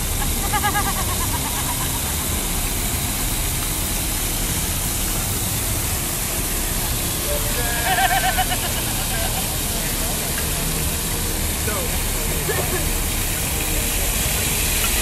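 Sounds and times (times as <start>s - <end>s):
fountain jets splashing: 0.0s - 15.0s.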